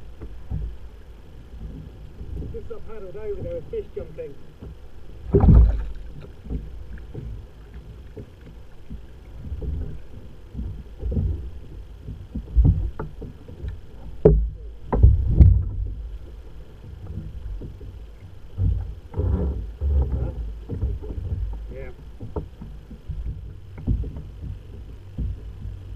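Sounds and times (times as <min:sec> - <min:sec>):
water slapping against kayak hull: 0:00.0 - 0:25.9.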